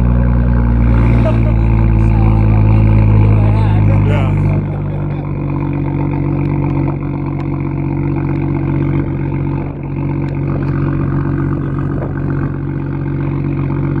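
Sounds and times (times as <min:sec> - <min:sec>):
car engine running steadily: 0:00.0 - 0:14.0.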